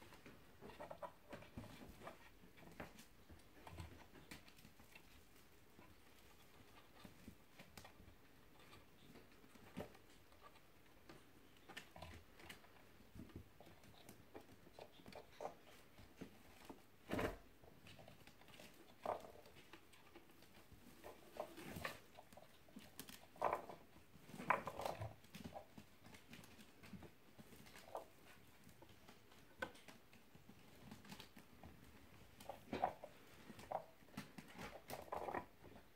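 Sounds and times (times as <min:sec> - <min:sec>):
kittens pattering and rustling: 0:00.0 - 0:35.9.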